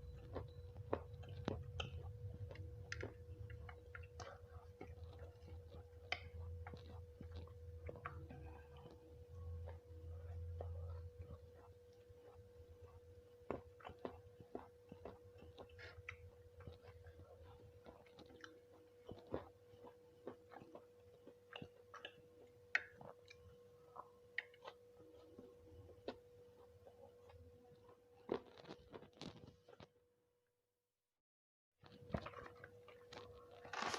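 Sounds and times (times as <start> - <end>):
faint hum: 0.0 - 28.7
person chewing: 0.0 - 29.9.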